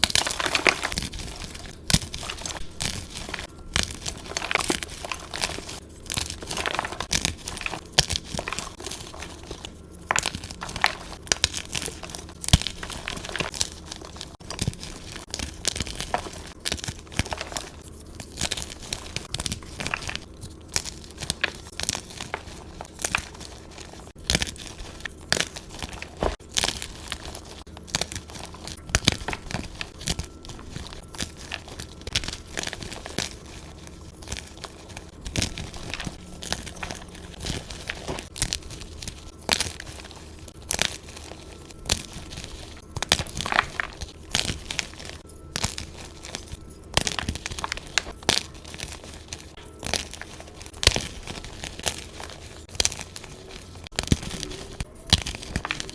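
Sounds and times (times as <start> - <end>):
chalk crunching by hand: 0.0 - 55.9.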